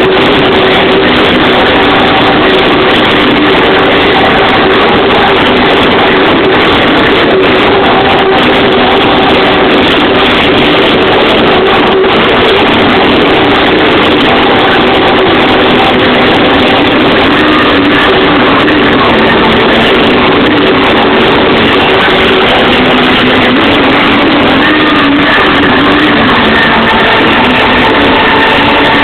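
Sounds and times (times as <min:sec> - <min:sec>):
distorted loud dance music: 0:00.0 - 0:29.0.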